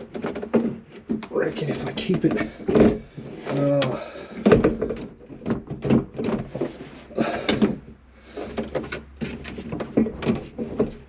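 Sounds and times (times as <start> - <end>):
dashboard knocking and scraping: 0.0 - 11.0.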